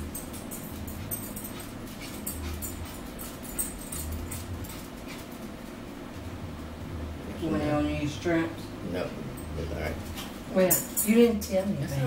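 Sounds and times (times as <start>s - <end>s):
low hum: 0.0s - 10.5s.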